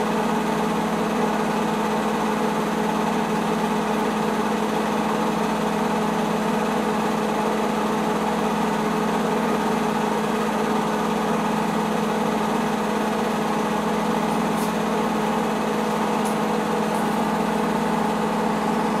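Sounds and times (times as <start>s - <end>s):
film projector humming and whirring: 0.0s - 19.0s.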